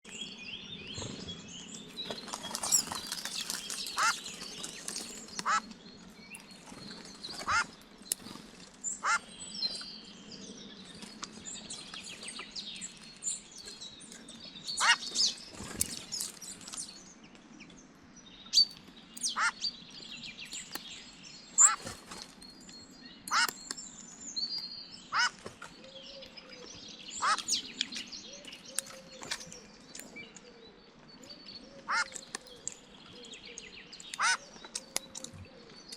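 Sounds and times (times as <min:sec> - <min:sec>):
wild birds chirping: 0:00.0 - 0:35.9.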